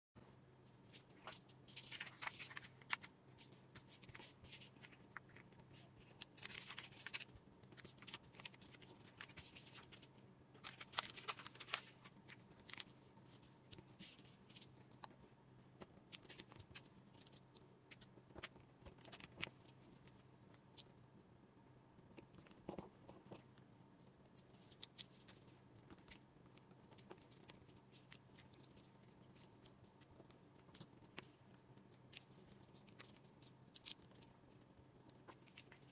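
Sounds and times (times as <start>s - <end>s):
paper crinkling while folded: 0.8s - 21.0s, 24.3s - 35.9s.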